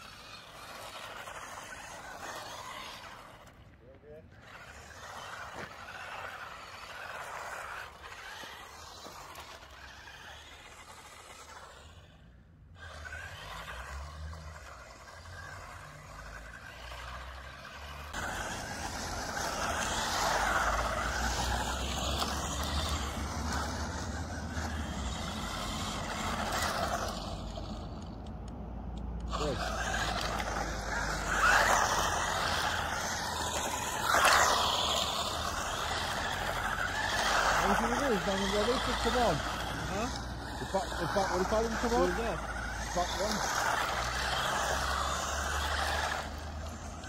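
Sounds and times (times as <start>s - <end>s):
rc cars driving on asphalt: 0.0s - 47.0s.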